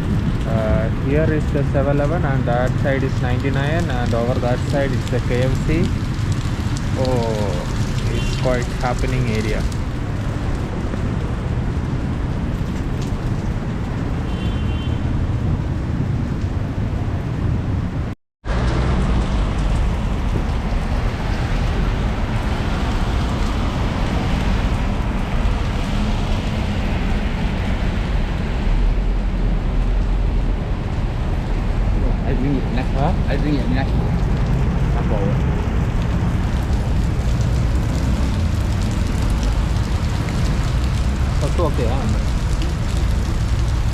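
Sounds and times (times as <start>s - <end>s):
heavy rain pouring: 0.0s - 43.9s
road traffic rumble: 0.0s - 43.9s.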